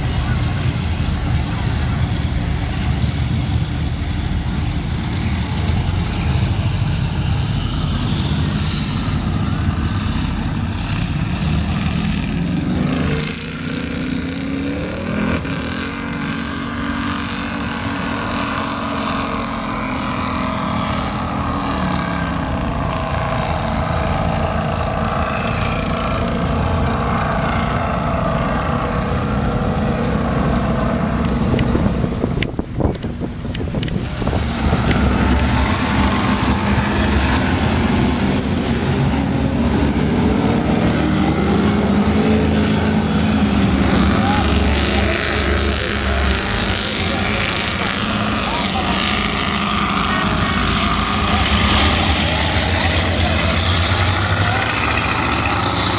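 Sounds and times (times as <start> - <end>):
boat engines running hard: 0.0 - 55.9.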